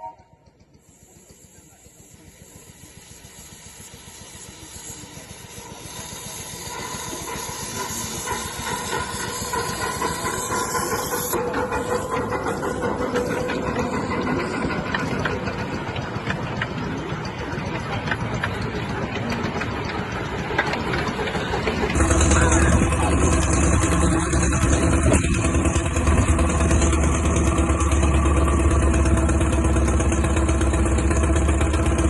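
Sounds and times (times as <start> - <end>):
miniature steam engine hissing: 0.0 - 32.0.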